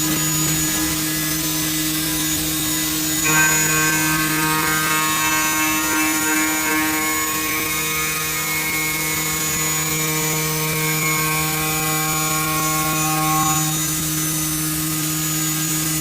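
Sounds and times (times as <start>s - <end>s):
machine motor whine: 0.0s - 16.0s.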